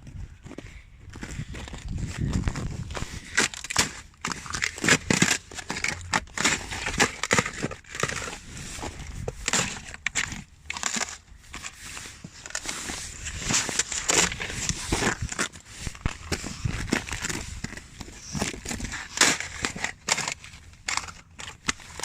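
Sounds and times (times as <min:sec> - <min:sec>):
brittle crunching and crackling: 0:01.5 - 0:22.0.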